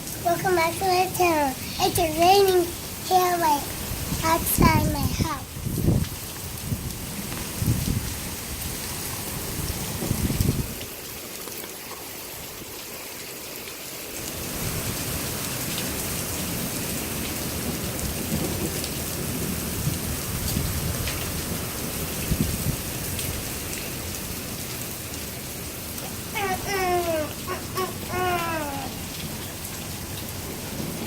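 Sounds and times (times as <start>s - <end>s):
rain pattering on surfaces: 0.0s - 31.0s.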